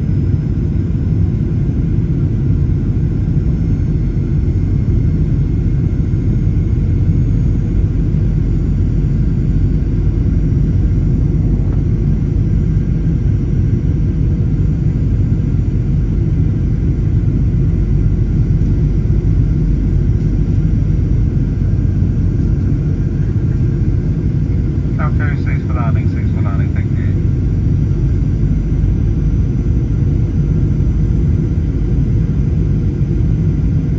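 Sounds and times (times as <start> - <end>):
airplane cabin rumble: 0.0 - 33.9.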